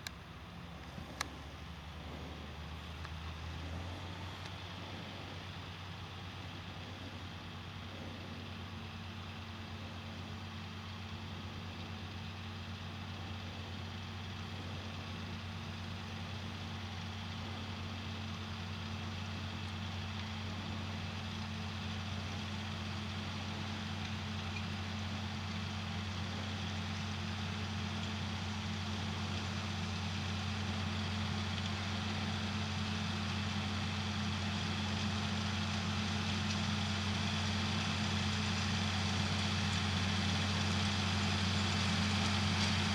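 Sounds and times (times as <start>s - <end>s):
tractor diesel engine droning: 0.0s - 42.9s.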